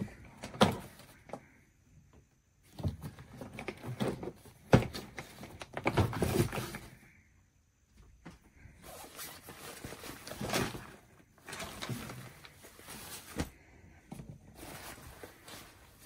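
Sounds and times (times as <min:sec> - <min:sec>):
rustling and knocking of objects: 0:00.0 - 0:07.2, 0:07.9 - 0:16.0.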